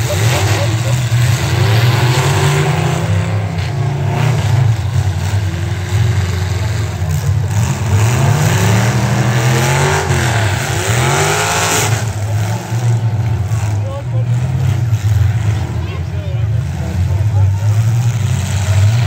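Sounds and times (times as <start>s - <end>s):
car engines revving hard: 0.0s - 19.0s.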